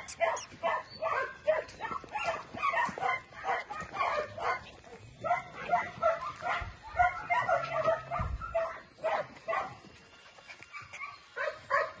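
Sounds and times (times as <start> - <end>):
dog yipping and barking: 0.0 - 9.8, 10.7 - 12.0.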